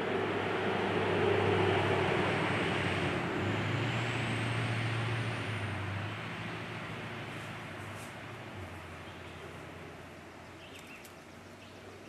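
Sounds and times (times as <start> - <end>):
passing motor vehicle engine hum: 0.0 - 12.0.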